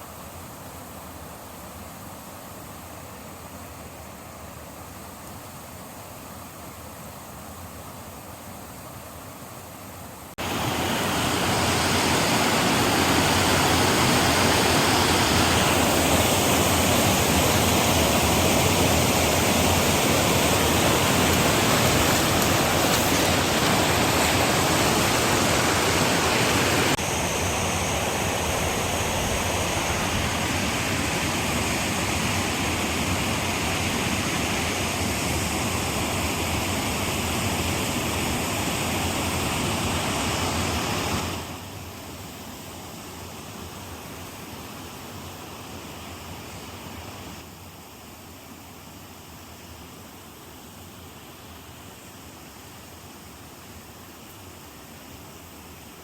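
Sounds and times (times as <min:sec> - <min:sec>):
rushing water: 0:10.2 - 0:56.0.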